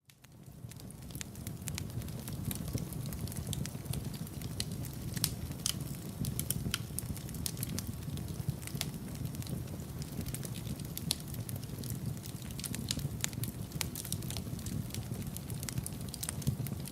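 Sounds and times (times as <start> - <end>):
logs crackling and popping: 0.0 - 16.9
low rumble of flames: 0.1 - 16.9.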